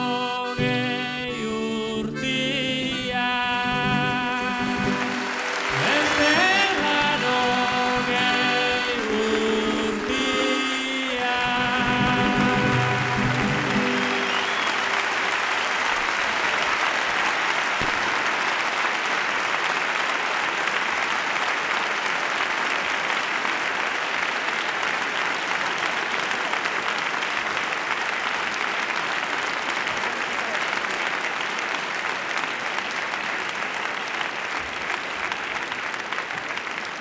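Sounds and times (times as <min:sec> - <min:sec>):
audience applauding: 0:03.7 - 0:37.0.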